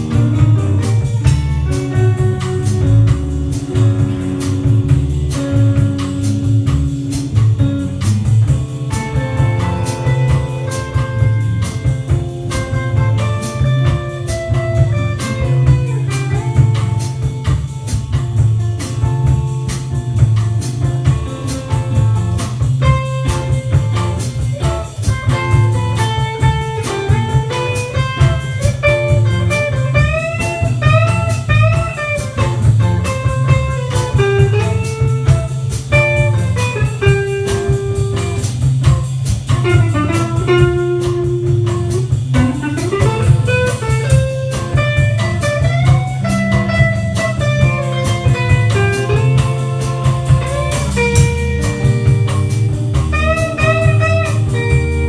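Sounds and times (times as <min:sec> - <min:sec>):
bass: 0:00.0 - 0:55.0
drum kit: 0:00.0 - 0:55.0
electric guitar melody: 0:00.0 - 0:55.0.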